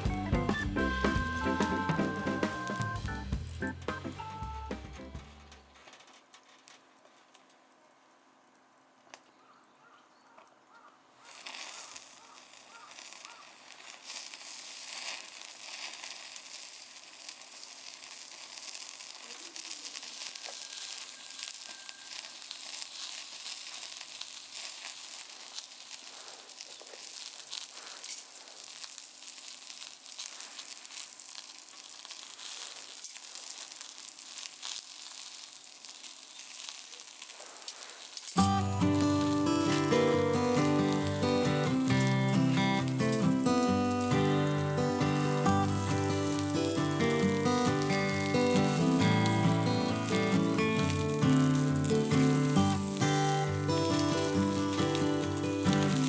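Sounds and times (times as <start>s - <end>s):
meat sizzling on a grill: 0.0s - 6.0s, 10.7s - 56.0s.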